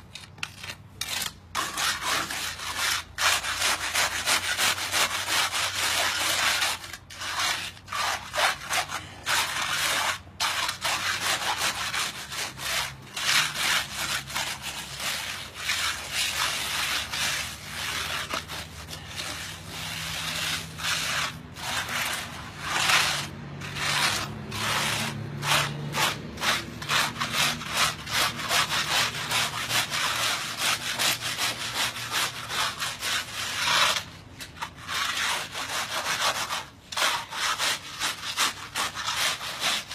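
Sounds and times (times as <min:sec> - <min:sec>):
float scraping concrete: 0:00.0 - 0:39.9.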